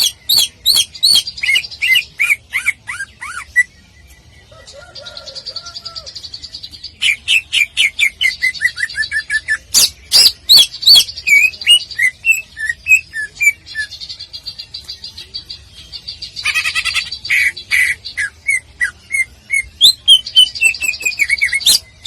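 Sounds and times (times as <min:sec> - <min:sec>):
bird singing varied song: 0:00.0 - 0:22.0.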